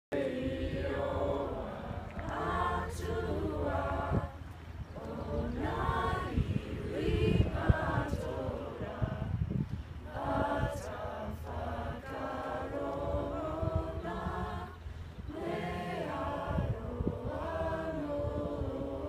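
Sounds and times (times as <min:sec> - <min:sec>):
group of teenagers singing: 0:00.1 - 0:19.0.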